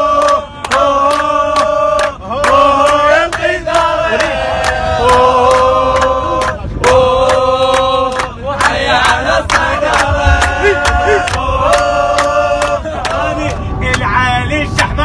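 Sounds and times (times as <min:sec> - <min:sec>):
rhythmic hand clapping: 0:00.0 - 0:14.0
men chanting together: 0:00.0 - 0:15.0.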